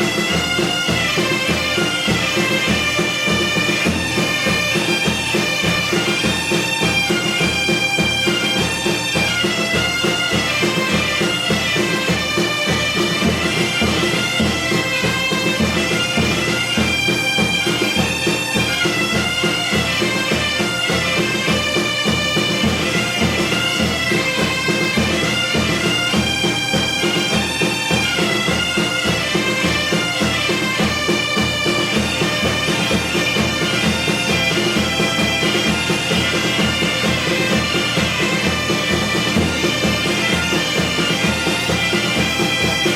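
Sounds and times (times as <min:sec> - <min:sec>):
bagpipe melody: 0:00.0 - 0:42.9.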